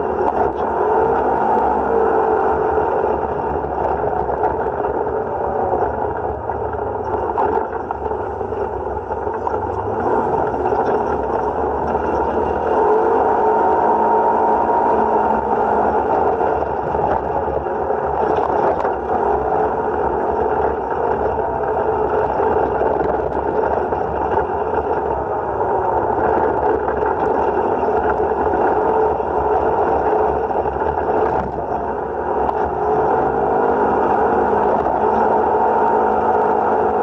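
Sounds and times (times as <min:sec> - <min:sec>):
utility vehicle engine running: 0:00.0 - 0:37.0.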